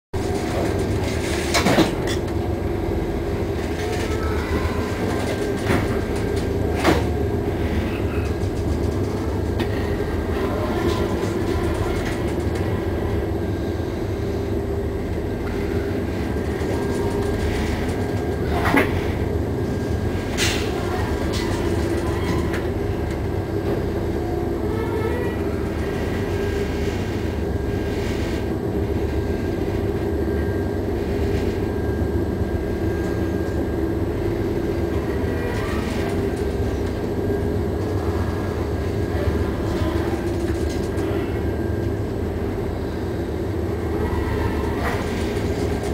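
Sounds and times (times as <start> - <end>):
ship engine rumble and hum: 0.1 - 45.9.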